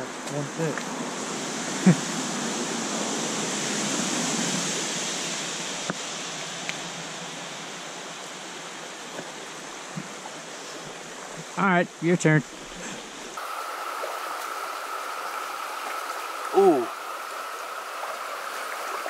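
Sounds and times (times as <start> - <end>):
creek water running over rocks: 0.0 - 19.0.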